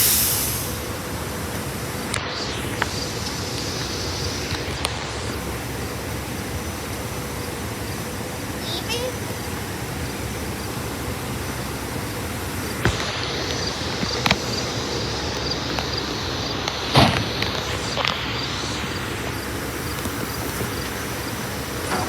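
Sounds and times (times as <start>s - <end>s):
commuter train running: 0.0s - 22.0s.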